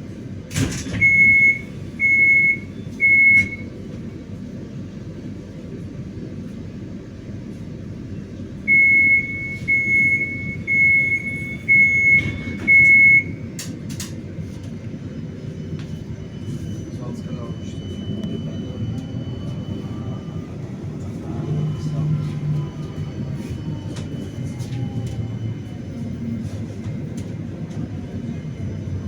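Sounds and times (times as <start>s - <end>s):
tram rumble: 0.0s - 29.0s.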